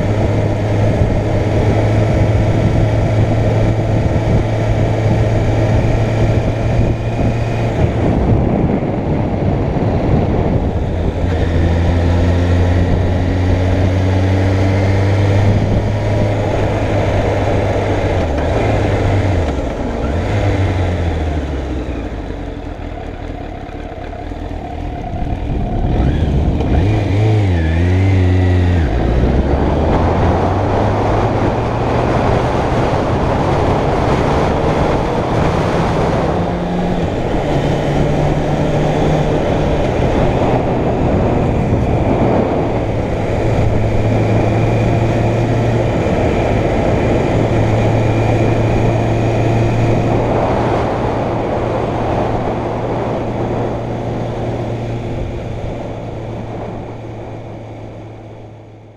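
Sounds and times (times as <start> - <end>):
loud wind rush: 0.0 - 22.8, 24.7 - 58.9
motorcycle engine running: 0.0 - 58.9.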